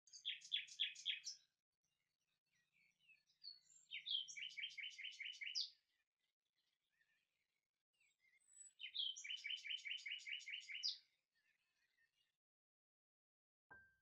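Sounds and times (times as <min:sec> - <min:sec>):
songbird singing: 0:00.0 - 0:12.4.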